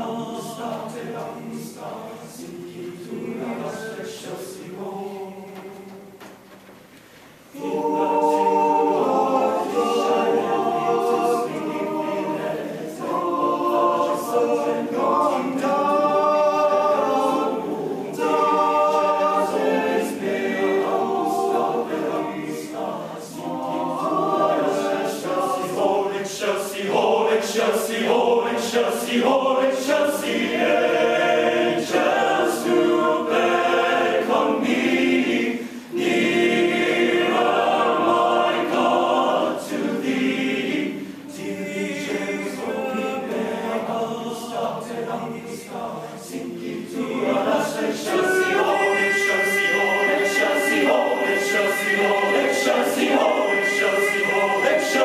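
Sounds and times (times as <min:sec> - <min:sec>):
male choir singing a cappella: 0:00.0 - 0:06.3, 0:07.5 - 0:55.0.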